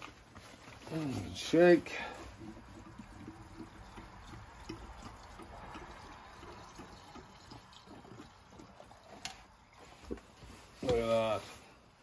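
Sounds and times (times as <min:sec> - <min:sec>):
fuel pouring into tank: 0:01.0 - 0:10.9.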